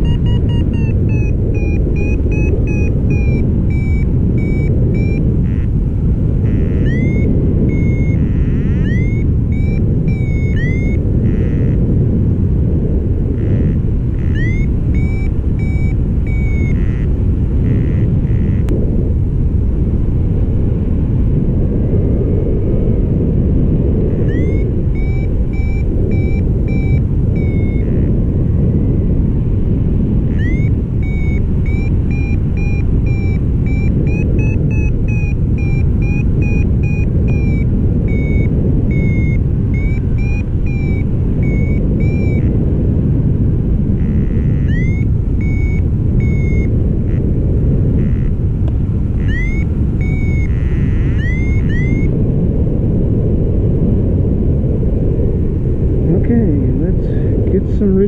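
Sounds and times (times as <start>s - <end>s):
variometer beeping: 0.0s - 18.8s, 21.8s - 52.4s
wind rushing over microphone: 0.0s - 58.0s.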